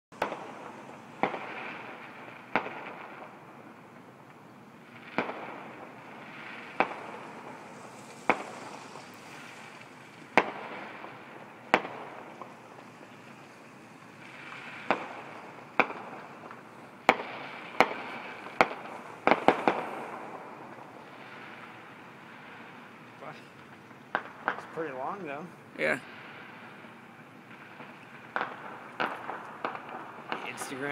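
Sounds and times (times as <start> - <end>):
fireworks bangs: 0.1 - 30.9
fireworks crackling hiss: 0.2 - 30.9.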